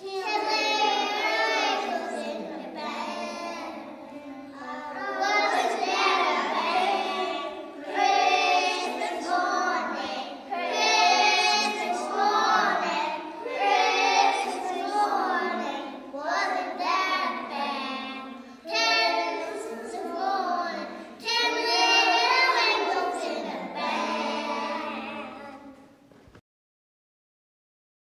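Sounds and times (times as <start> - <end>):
children singing together: 0.0 - 26.0.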